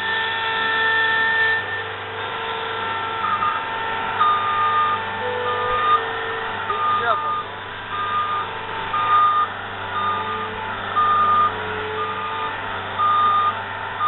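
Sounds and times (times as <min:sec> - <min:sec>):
diesel machine running: 0:00.0 - 0:14.0
high whining engine tones: 0:00.0 - 0:14.0
reversing alarm beeping: 0:00.5 - 0:14.0.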